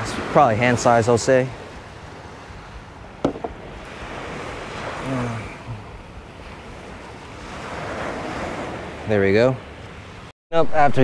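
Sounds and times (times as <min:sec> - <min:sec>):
waves washing on sandy shore: 0:00.0 - 0:10.3.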